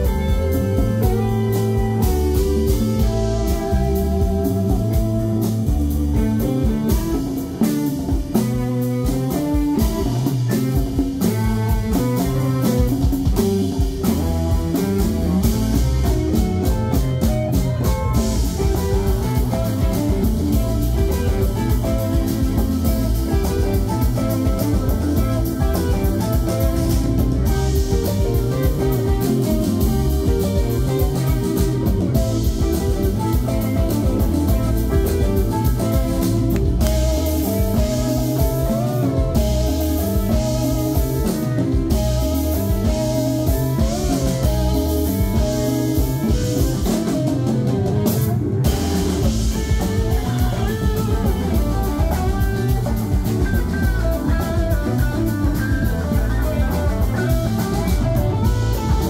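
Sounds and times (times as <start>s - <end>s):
drum kit beat: 0.0s - 59.0s
electric guitar lead lines: 0.0s - 59.0s.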